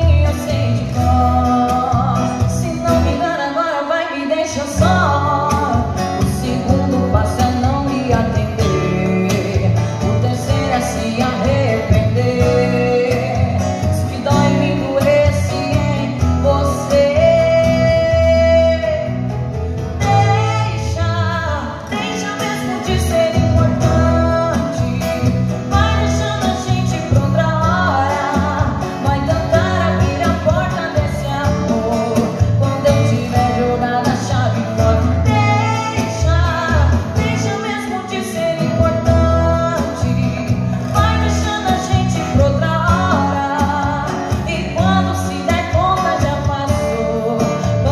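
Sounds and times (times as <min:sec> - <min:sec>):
acoustic guitar: 0:00.0 - 0:47.9
woman singing into microphone: 0:00.0 - 0:47.9.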